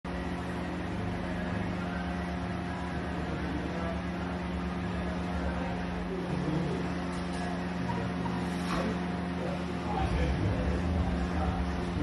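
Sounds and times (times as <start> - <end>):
steady low machinery hum: 0.0 - 12.0.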